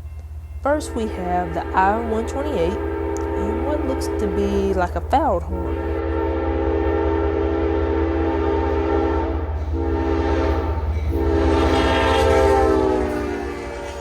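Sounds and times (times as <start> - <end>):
low locomotive rumble: 0.0 - 14.0
locomotive horn blasts: 0.7 - 14.0.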